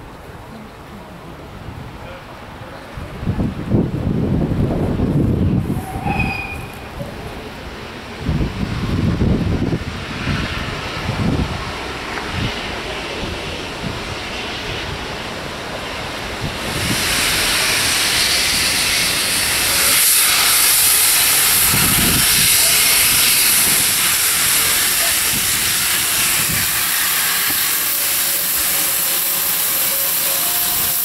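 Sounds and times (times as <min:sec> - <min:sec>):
wind noise on microphone: 0:02.9 - 0:07.4, 0:08.1 - 0:29.0
steam locomotive hissing steam: 0:05.6 - 0:31.0.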